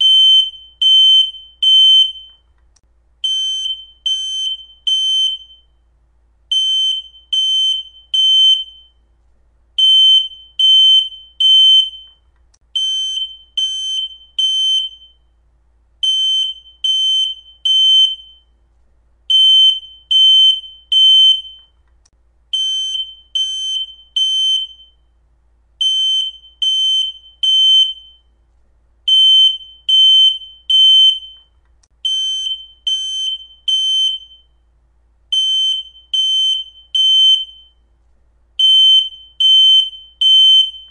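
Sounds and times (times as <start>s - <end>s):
smoke alarm beeping: 0.0s - 2.5s, 3.2s - 5.8s, 6.5s - 9.1s, 9.8s - 15.4s, 16.0s - 18.6s, 19.3s - 21.8s, 22.6s - 25.1s, 25.8s - 28.4s, 29.1s - 34.6s, 35.3s - 37.9s, 38.6s - 40.9s.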